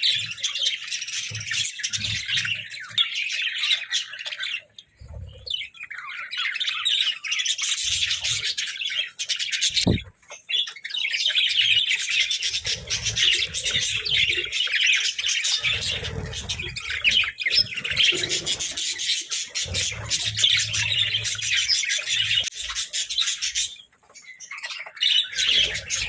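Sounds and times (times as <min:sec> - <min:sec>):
budgerigars chattering and chirping: 0:00.0 - 0:26.0.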